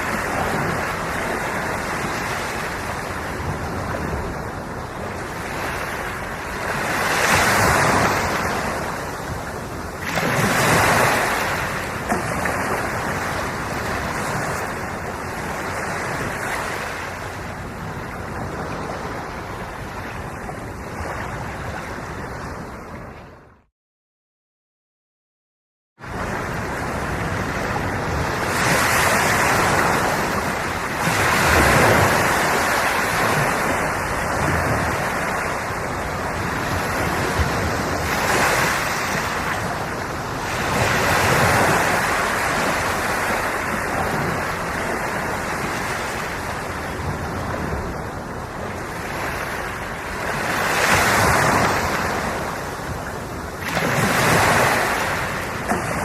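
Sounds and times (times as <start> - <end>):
sea waves breaking on shore: 0.0 - 23.6, 26.0 - 56.0.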